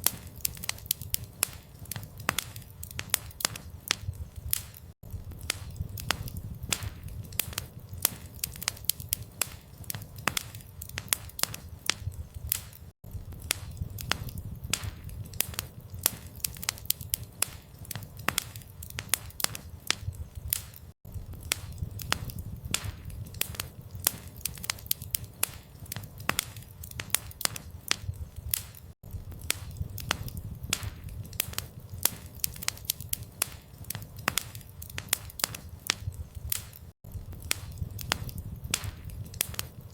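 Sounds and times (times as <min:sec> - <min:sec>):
campfire crackling and popping: 0:00.0 - 0:39.9
low rumble of burning wood: 0:00.0 - 0:39.9.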